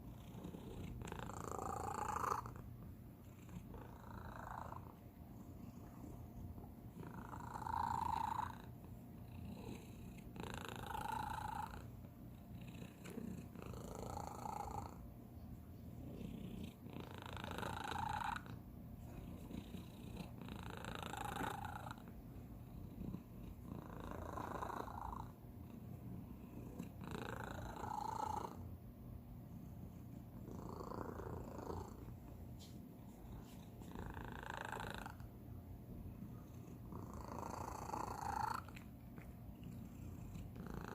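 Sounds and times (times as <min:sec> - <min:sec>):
cat purring: 0:00.0 - 0:28.8, 0:29.4 - 0:40.9.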